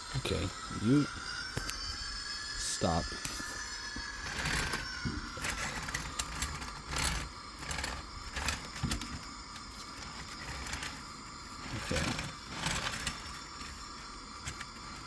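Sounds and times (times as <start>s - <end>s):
small electric motor whirring: 0.0s - 15.0s
wheels clicking over rails: 2.8s - 15.0s.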